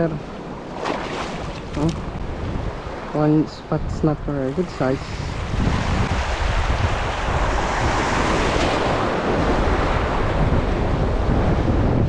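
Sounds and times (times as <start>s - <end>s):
surf washing over rocks: 0.0s - 12.0s
wind rumbling on microphone: 0.0s - 12.0s.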